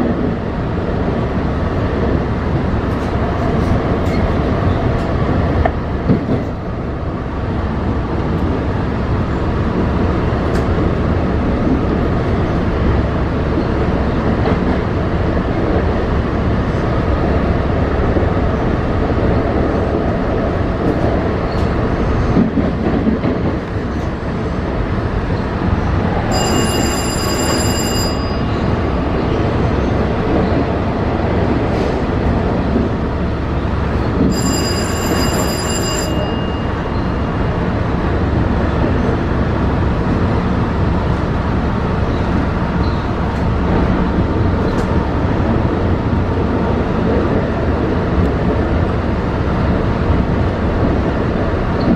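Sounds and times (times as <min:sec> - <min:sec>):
train rumbling along track: 0:00.0 - 0:51.9.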